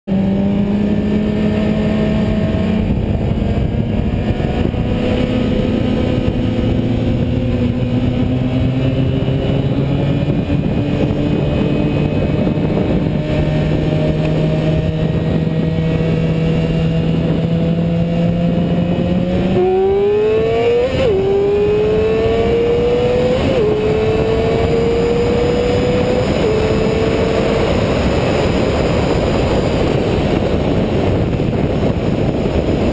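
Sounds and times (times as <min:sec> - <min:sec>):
car engine revving and upshifting: 0:00.1 - 0:32.9
rushing wind noise: 0:00.1 - 0:32.9.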